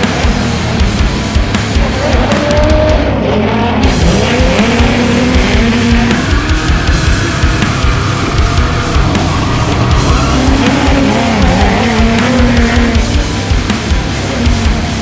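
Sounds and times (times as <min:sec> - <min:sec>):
loud background music: 0:00.0 - 0:15.0
truck engines revving: 0:00.0 - 0:15.0.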